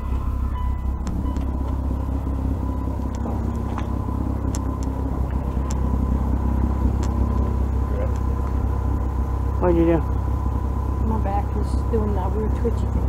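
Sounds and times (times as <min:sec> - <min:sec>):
machinery rumbling: 0:00.0 - 0:13.0.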